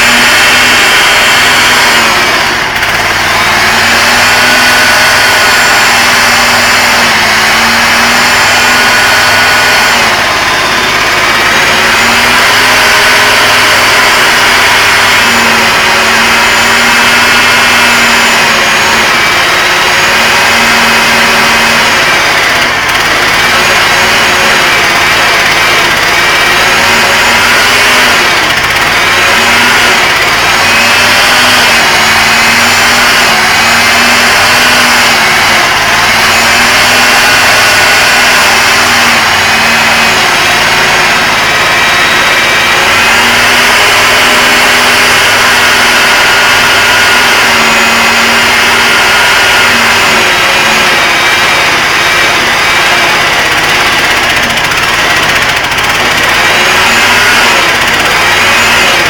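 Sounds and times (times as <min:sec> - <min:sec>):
high whine: 0:00.0 - 0:59.0
mini excavator engine running: 0:00.0 - 0:59.0.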